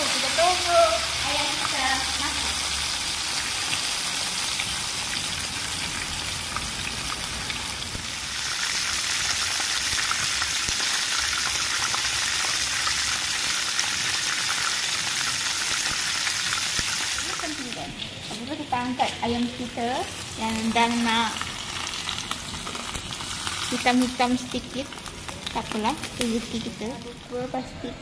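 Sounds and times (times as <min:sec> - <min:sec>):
chicken frying in hot oil: 0:00.0 - 0:27.7.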